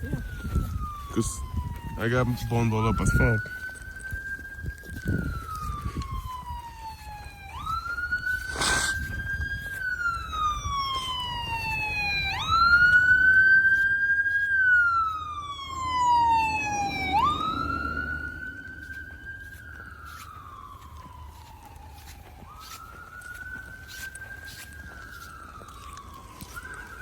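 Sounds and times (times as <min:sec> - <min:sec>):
emergency vehicle siren wailing: 0:00.0 - 0:27.0.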